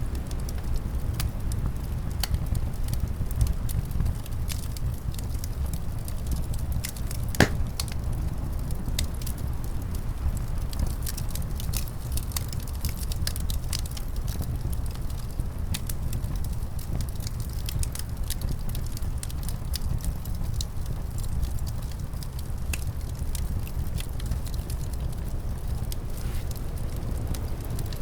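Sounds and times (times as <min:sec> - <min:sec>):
low rumble of wind: 0:00.0 - 0:28.0
wood fire crackling and popping: 0:00.2 - 0:28.0.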